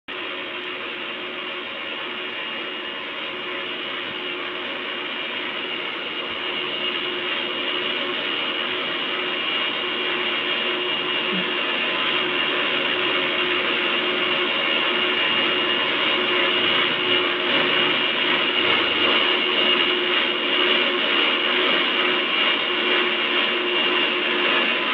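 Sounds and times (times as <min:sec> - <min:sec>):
high engine whine: 0:00.1 - 0:24.9
jet engines roaring: 0:00.2 - 0:24.9.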